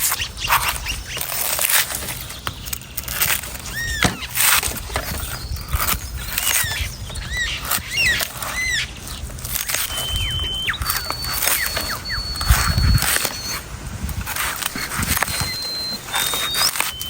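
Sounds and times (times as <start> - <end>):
thin whistle-like tone: 0.0 - 8.9, 9.6 - 13.7, 14.5 - 17.0
high arching animal calls: 0.0 - 17.0.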